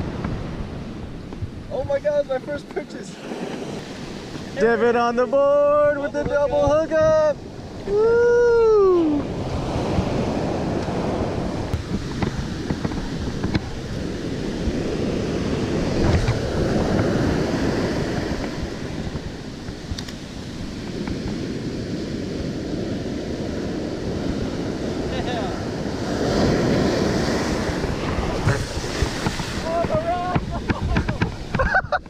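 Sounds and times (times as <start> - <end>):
surf breaking on sandy beach: 0.0 - 32.0
wind buffeting microphone: 0.0 - 32.0.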